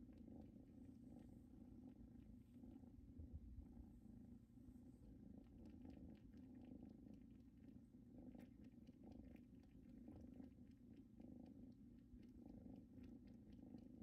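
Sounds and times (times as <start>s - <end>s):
kittens purring: 0.0s - 14.0s.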